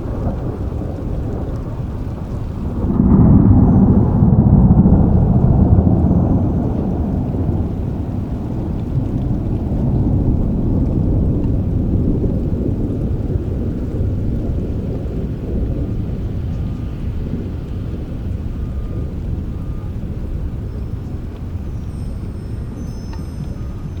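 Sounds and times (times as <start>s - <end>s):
rolling thunder: 0.0s - 24.0s
steady rainfall: 0.0s - 24.0s.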